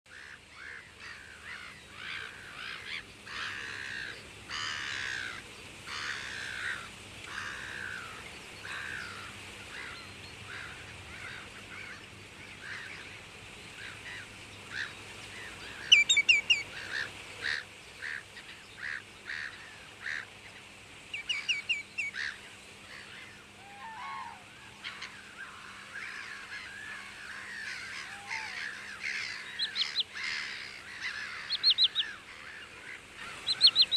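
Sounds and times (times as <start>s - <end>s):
birds calling: 0.1s - 33.9s.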